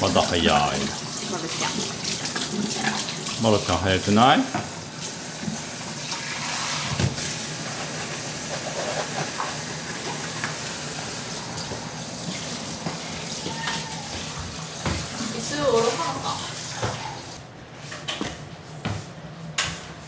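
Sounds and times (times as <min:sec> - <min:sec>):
tap water running into sink: 0:00.0 - 0:17.4.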